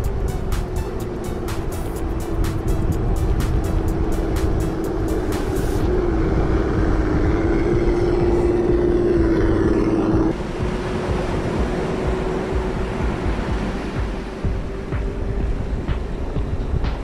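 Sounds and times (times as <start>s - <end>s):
low rumbling background: 0.0s - 17.0s.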